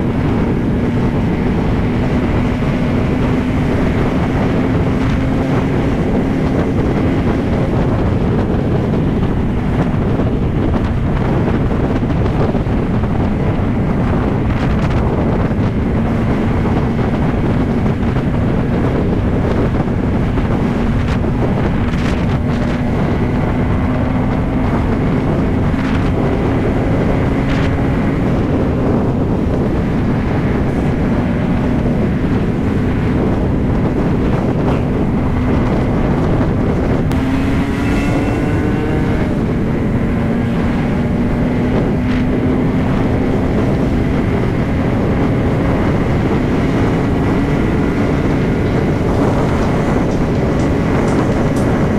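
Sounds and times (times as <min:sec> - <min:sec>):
motorcycle engine cruising: 0:00.0 - 0:51.9
wind buffeting microphone: 0:00.0 - 0:51.9.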